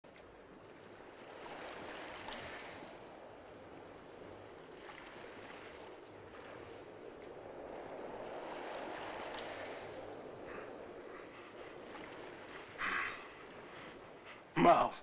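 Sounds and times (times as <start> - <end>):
waves washing around a ship: 0.0 - 15.0
wind: 0.0 - 15.0.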